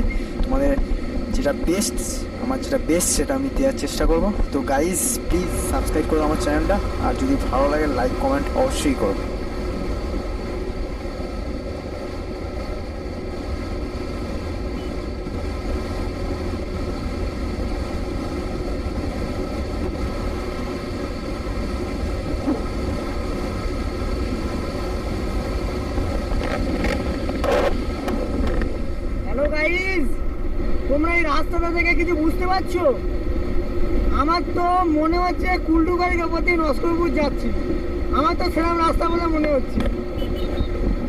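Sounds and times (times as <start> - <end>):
motorcycle engine and road noise: 0.0 - 41.0.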